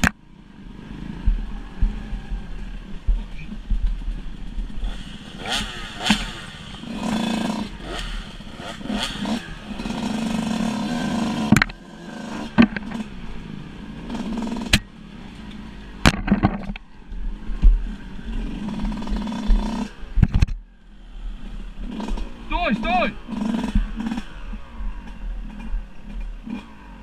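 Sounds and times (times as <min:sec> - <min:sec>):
dirt bike engine revving: 0:00.8 - 0:16.3, 0:17.4 - 0:20.2, 0:21.0 - 0:27.0.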